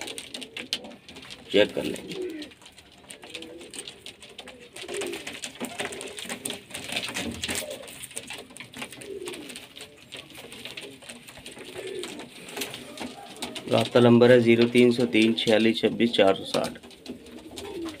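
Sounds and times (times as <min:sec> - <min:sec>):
birds scuffling and clicking: 0:00.0 - 0:18.0
pigeons cooing: 0:00.0 - 0:18.0.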